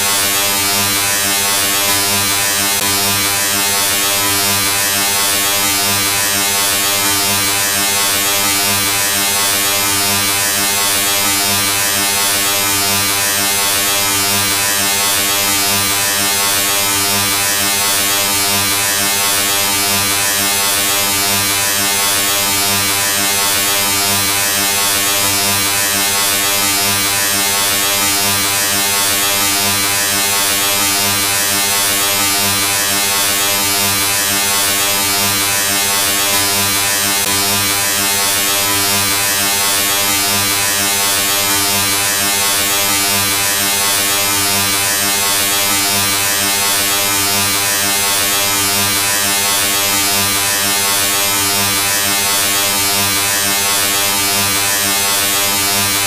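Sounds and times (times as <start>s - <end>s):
loud harsh electric buzz: 0.0s - 56.0s.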